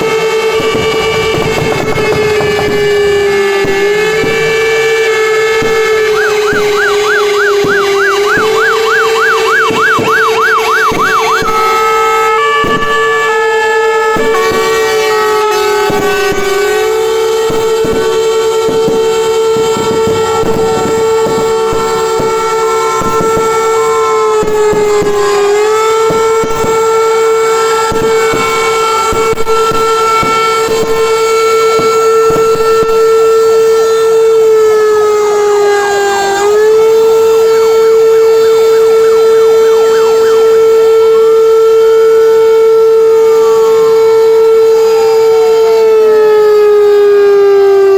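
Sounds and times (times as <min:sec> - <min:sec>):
electronic sirens: 0:00.0 - 0:47.9
fire engine horn: 0:00.0 - 0:47.9.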